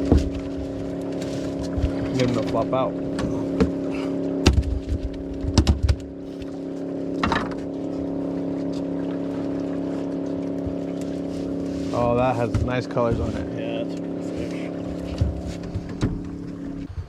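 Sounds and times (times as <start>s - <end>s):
fish flopping thumps: 0.0s - 7.8s, 8.6s - 14.1s, 14.7s - 17.0s
boat motor running: 0.0s - 17.0s.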